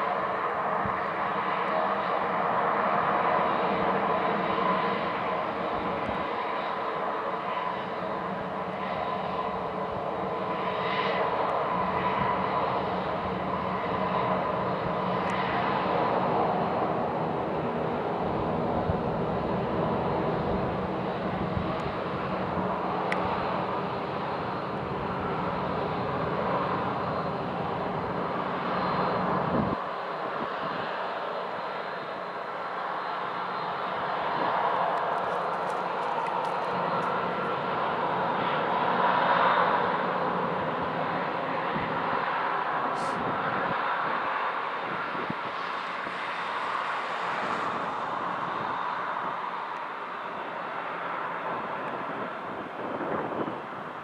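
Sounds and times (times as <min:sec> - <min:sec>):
jet engine rumble: 0:00.0 - 0:54.0
jet engines whining: 0:00.0 - 0:54.0.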